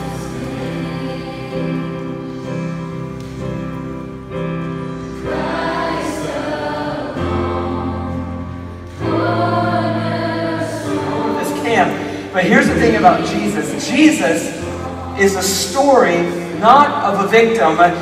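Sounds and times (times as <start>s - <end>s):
youth choir singing: 0.0s - 2.7s, 5.0s - 17.9s.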